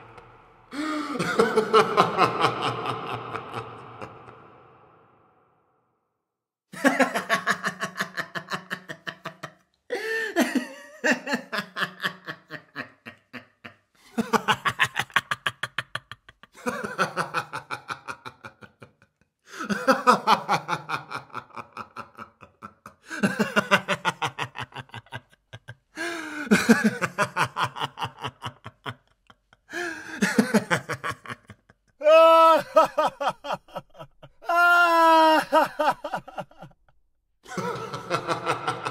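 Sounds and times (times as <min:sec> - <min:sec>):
man laughing: 0:00.0 - 0:05.1, 0:06.8 - 0:36.8, 0:37.5 - 0:38.9.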